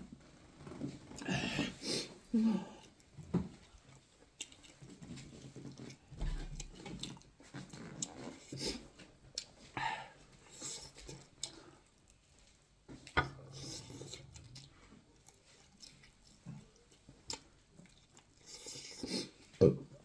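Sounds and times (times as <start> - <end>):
person chewing food: 1.0 - 20.0.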